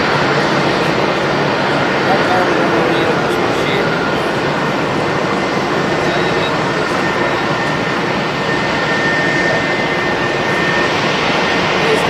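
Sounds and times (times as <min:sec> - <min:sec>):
jet engines rushing with whine: 0:00.0 - 0:12.0.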